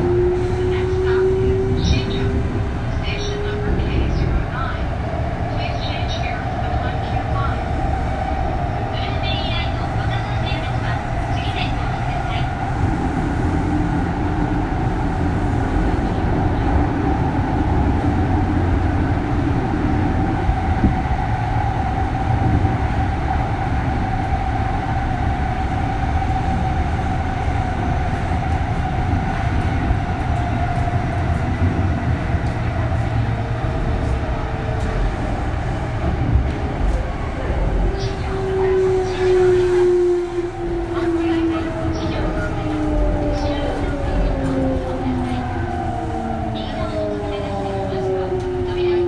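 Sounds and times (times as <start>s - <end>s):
wheels rumbling on rail: 0.0s - 49.0s.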